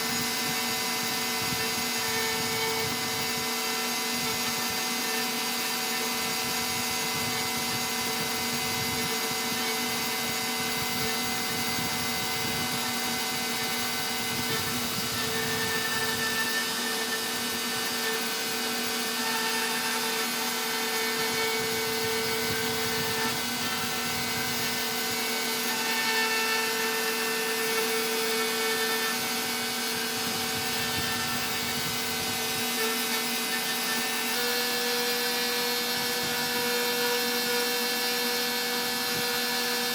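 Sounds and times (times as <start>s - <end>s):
router spindle whining carving wood: 0.0s - 39.9s.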